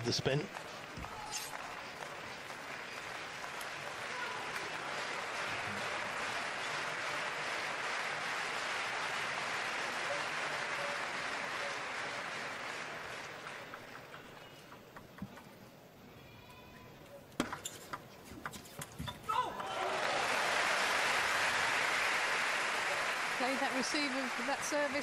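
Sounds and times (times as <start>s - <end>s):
crowd applauding: 0.0s - 15.0s, 19.3s - 25.0s.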